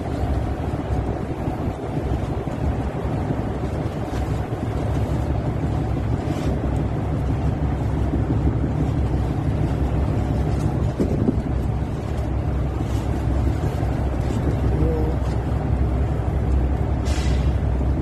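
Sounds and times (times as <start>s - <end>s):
boat engines rumbling: 0.0s - 18.0s
wind buffeting microphone: 0.0s - 18.0s.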